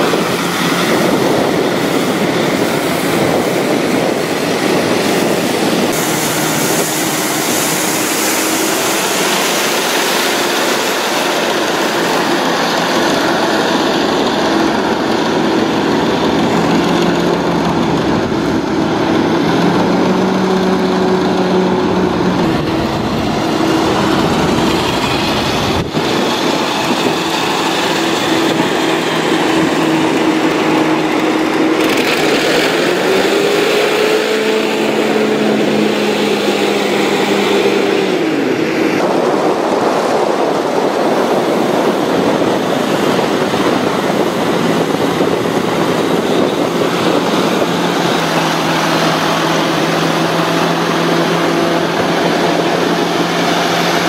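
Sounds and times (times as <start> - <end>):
air and water noise: 0.0 - 54.0
hovercraft engine drone: 0.0 - 54.0.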